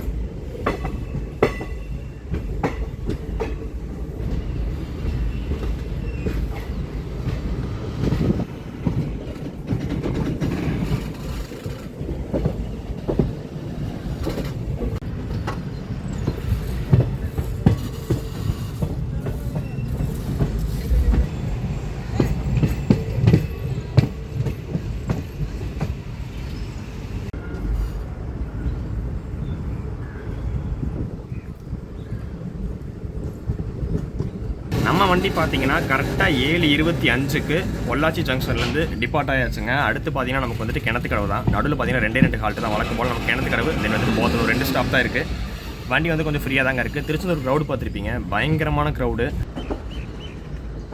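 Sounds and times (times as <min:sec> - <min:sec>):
wheels clacking over rail joints: 0:00.0 - 0:27.7, 0:31.6 - 0:50.9
train rumbling: 0:00.0 - 0:50.9.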